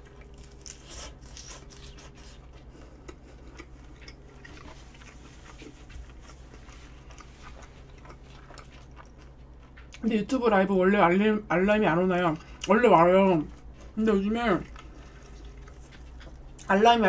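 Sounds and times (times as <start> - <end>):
crunching crisp vegetables: 0.0 - 10.1, 12.3 - 17.0
faint low hum: 0.0 - 17.0.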